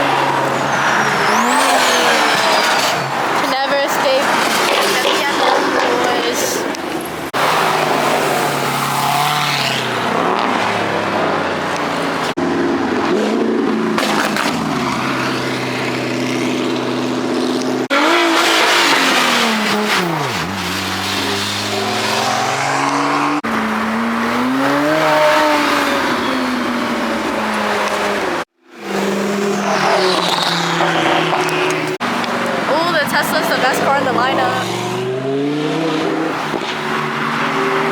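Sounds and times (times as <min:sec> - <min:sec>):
car engines revving and passing: 0:00.0 - 0:37.9.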